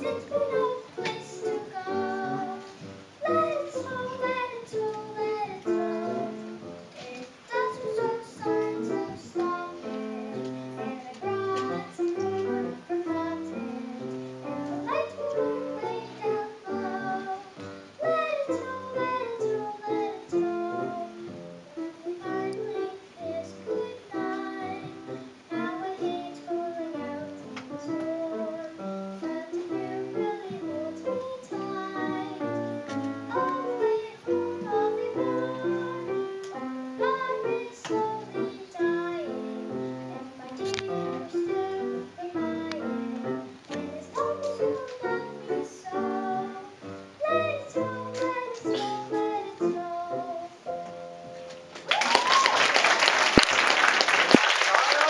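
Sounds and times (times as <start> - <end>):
young voice singing: 0.0 - 50.8.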